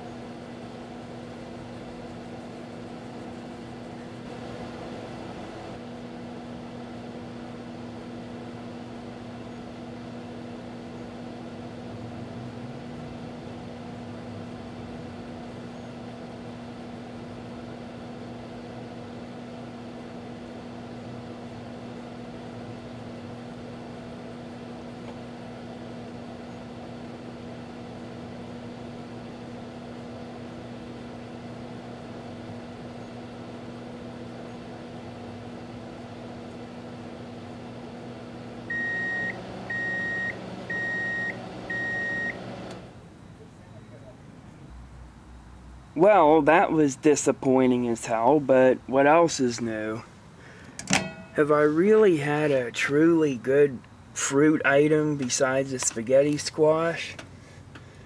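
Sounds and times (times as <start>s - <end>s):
microwave oven humming: 0.0s - 44.7s, 45.4s - 58.0s.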